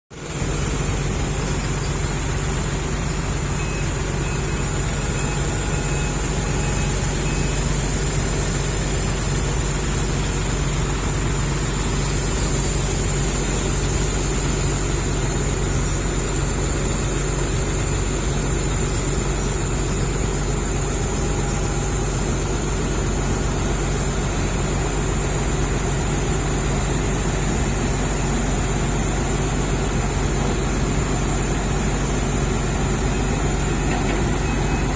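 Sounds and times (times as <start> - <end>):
diesel engine running steadily: 0.1 - 34.9.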